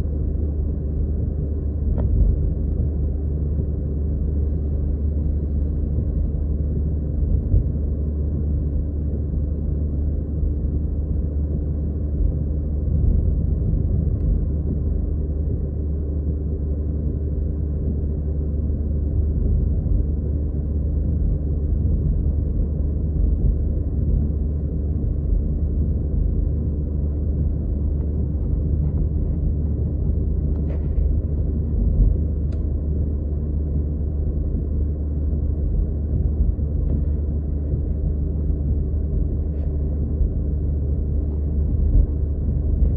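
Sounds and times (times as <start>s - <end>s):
car cabin road rumble: 0.0s - 42.9s.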